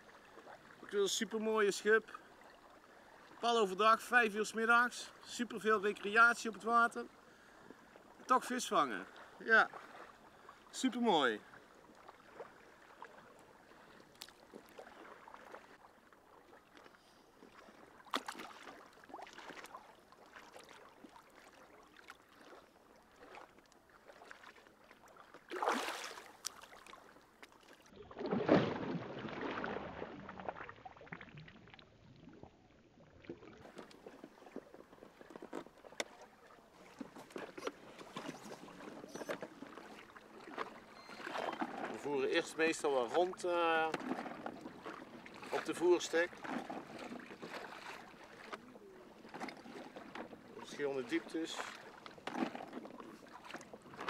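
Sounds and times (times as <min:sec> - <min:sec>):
water splashing and lapping: 0:00.0 - 0:54.0.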